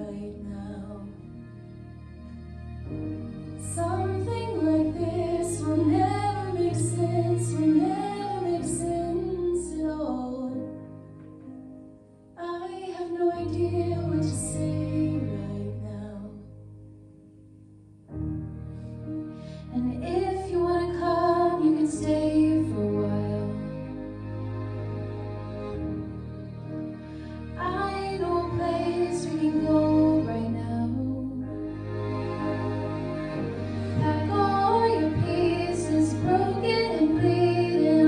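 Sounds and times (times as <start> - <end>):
soft instrumental accompaniment: 0.0 - 38.0.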